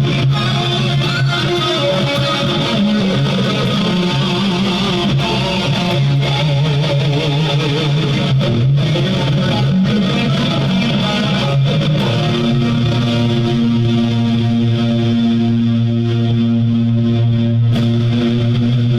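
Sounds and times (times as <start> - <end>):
bass line: 0.0 - 18.9
electric guitar: 0.0 - 18.9.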